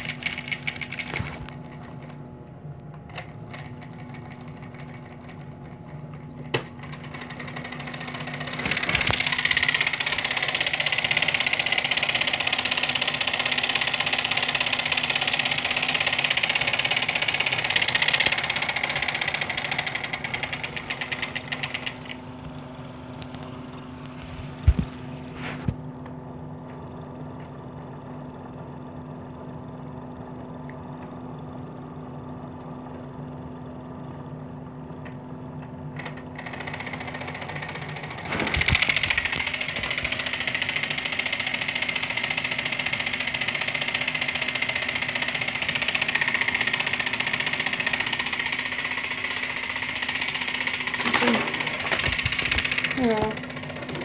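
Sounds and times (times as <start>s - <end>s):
compressor humming: 0.0s - 54.0s.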